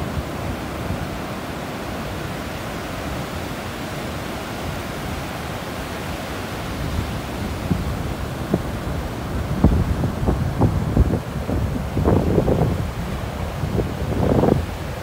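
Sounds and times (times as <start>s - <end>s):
waves breaking: 0.0s - 15.0s.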